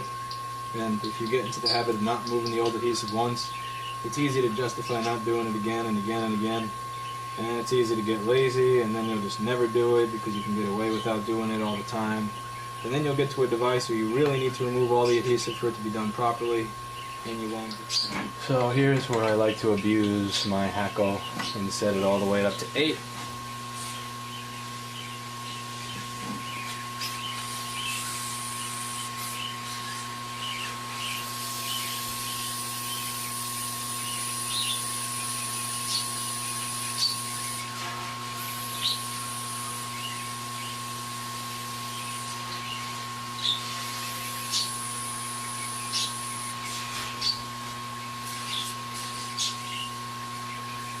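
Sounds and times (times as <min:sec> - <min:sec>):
hot air station hissing: 0:00.0 - 0:50.2
electrical hum: 0:00.0 - 0:51.0.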